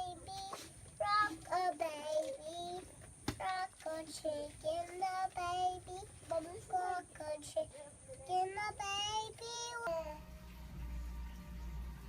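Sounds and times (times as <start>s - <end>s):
child singing: 0.0s - 10.2s.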